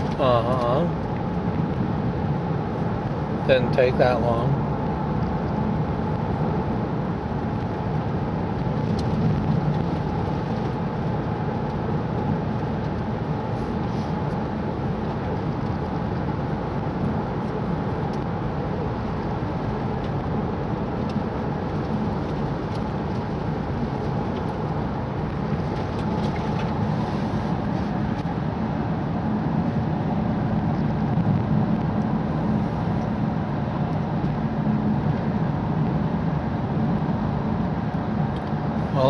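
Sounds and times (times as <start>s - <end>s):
car engine and tyre hum: 0.0s - 39.0s.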